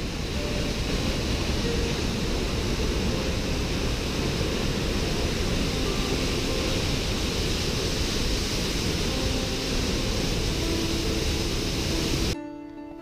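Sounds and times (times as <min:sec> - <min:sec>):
waterfall rushing: 0:00.0 - 0:12.4.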